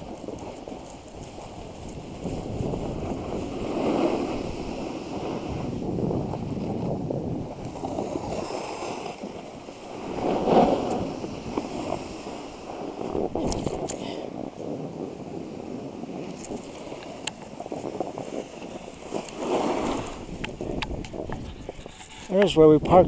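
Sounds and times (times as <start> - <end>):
snowboard scraping over snow: 0.0 - 22.3
wind buffeting microphone: 0.0 - 23.0.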